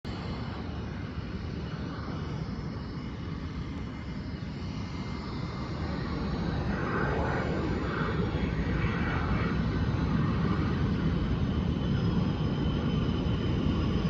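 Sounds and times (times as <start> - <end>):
distant jet engines rumbling: 0.1 - 14.0.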